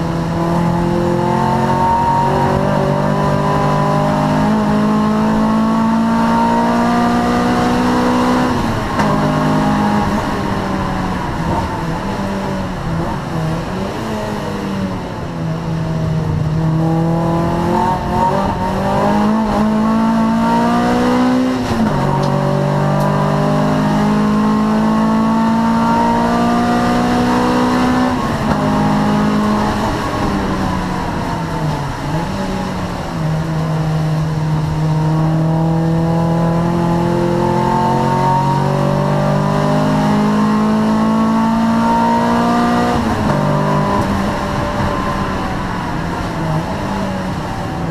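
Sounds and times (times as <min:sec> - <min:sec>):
race car engine accelerating: 0:00.0 - 0:47.9.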